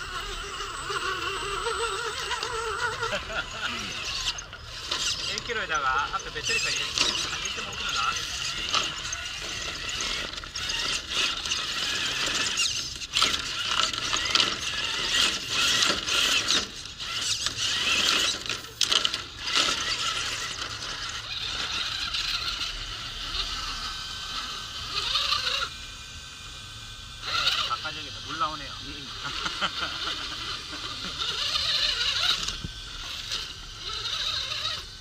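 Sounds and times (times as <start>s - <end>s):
electric motor and gearbox whirring: 0.0s - 35.0s.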